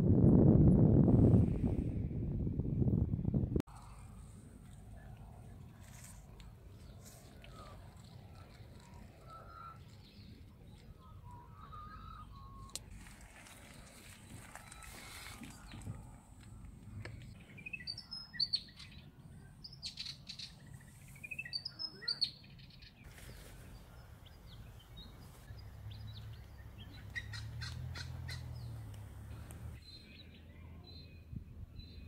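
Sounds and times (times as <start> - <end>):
birds chirping: 4.9 - 32.0.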